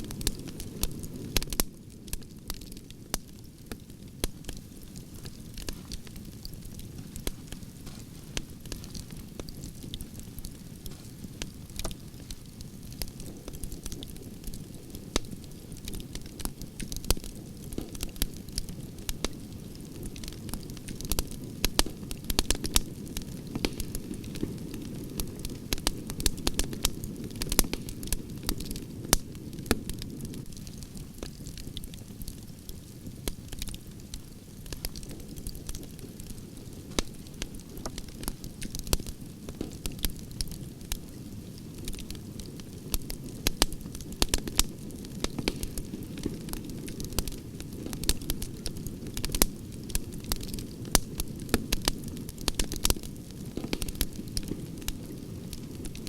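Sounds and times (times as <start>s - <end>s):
campfire crackling: 0.0s - 56.0s
low rumble of flames: 0.0s - 56.0s
sharp pops from fire: 0.0s - 56.0s.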